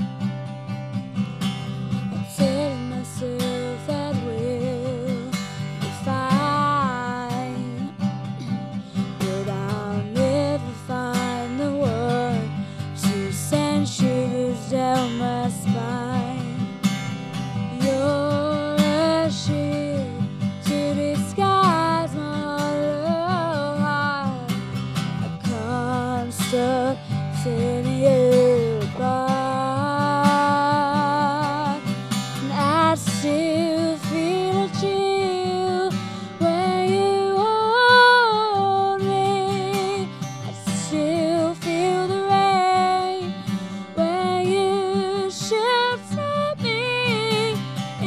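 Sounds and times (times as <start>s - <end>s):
strummed acoustic guitar: 0.0s - 48.0s
woman singing: 0.0s - 48.0s.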